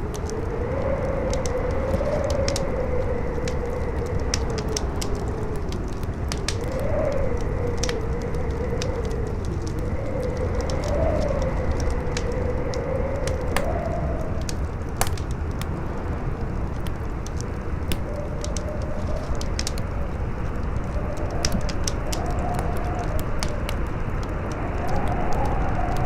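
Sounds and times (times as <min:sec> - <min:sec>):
campfire crackling and popping: 0:00.0 - 0:26.0
strong wind howling: 0:00.0 - 0:26.0.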